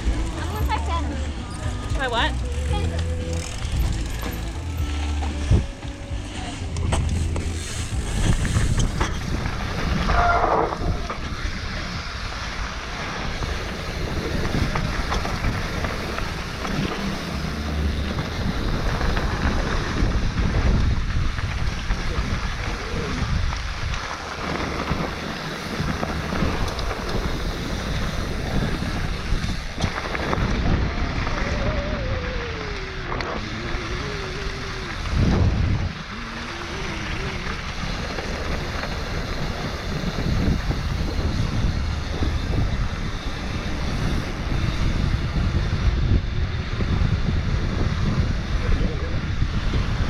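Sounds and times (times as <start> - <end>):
bike clicks and rattles: 0.0 - 50.0
bike tyres rumbling on dirt: 0.0 - 50.0
wind buffeting microphone: 0.0 - 50.0.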